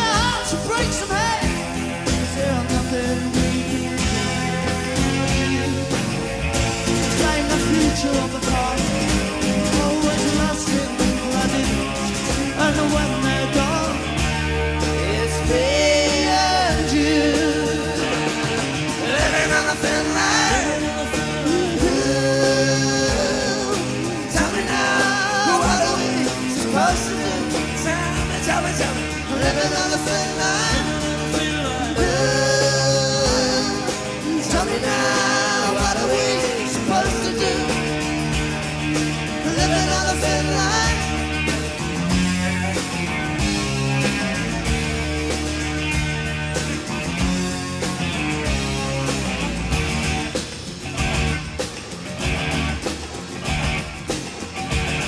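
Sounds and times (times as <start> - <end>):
bending lead guitar melody: 0.0 - 55.0
live rock band playing: 0.0 - 55.0.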